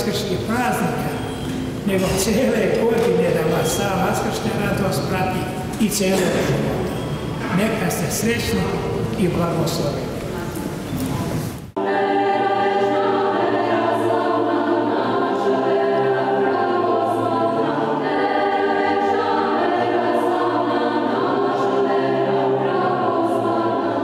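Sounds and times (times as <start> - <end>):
church choir singing in harmony: 0.0 - 10.1, 11.0 - 24.0.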